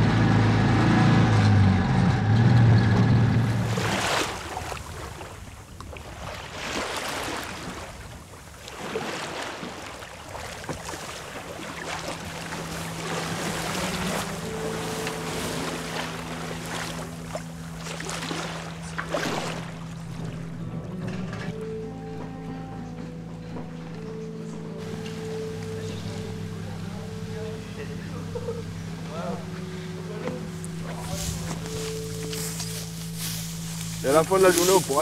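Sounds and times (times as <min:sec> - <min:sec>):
steady low hum: 0:00.0 - 0:04.8, 0:11.2 - 0:35.0
wind and sea water rushing: 0:00.0 - 0:35.0.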